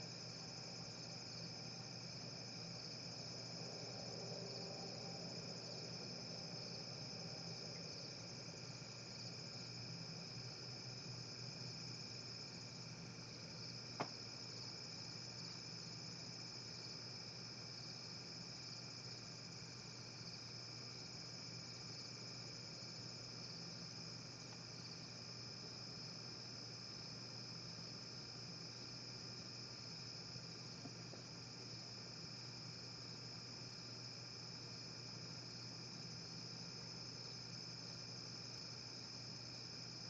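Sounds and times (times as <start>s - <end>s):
faint low hum: 0.0s - 33.8s
crickets trilling: 0.0s - 40.0s.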